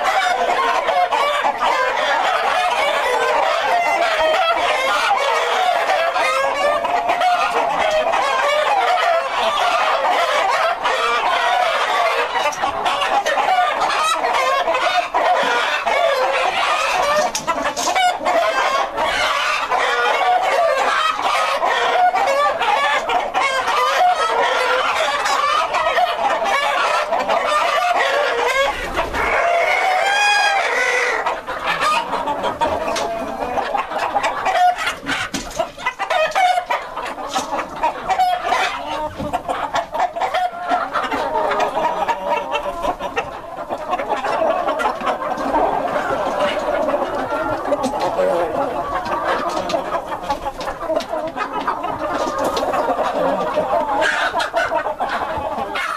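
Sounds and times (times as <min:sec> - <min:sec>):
chickens clucking and calling: 0:00.0 - 0:55.9
drawn-out chicken call: 0:00.0 - 0:55.9.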